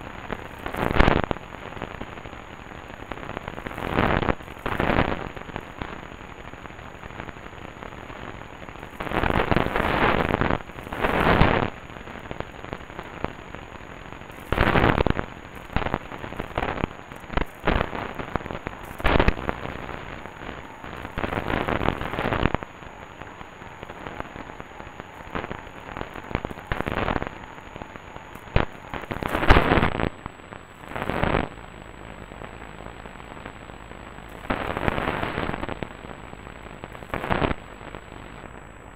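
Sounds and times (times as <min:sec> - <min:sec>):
radio static hiss: 0:00.0 - 0:38.9
static crashes and crackles: 0:00.0 - 0:38.9.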